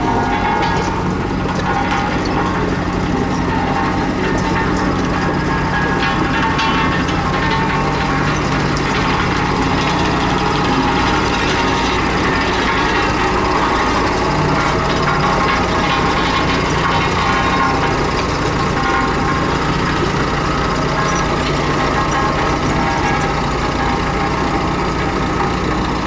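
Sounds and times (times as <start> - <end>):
bulldozer diesel engine: 0.0 - 26.0
metallic clatter of tracks: 0.0 - 26.0.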